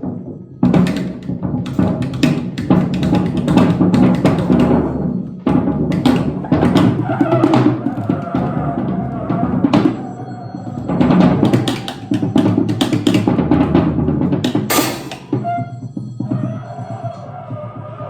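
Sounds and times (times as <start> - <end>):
irregular drum and percussion strikes: 0.0 - 17.2.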